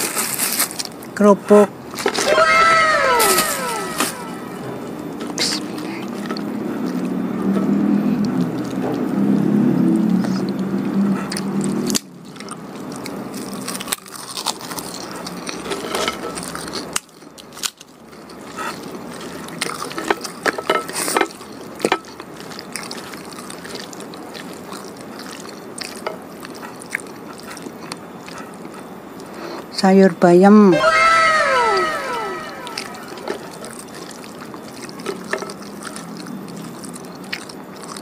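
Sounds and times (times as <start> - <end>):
person chewing food: 3.4 - 29.7, 32.7 - 38.0.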